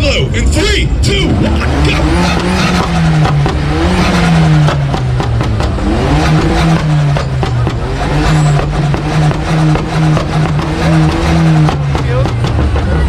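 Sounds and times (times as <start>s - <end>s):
car engine bouncing off rev limiter: 1.3s - 13.0s
loud exhaust pops and bangs: 1.4s - 13.0s.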